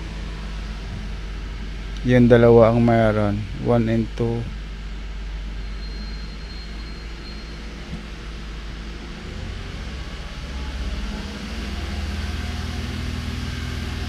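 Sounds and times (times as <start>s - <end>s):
misfiring car engine running: 0.0s - 14.0s.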